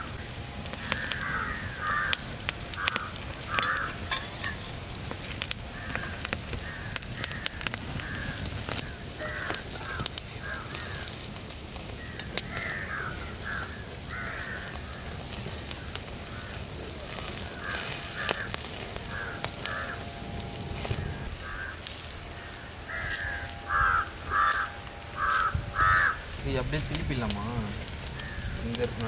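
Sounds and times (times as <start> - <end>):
crows cawing: 0.0 - 29.0
wood fire crackling: 0.0 - 29.0.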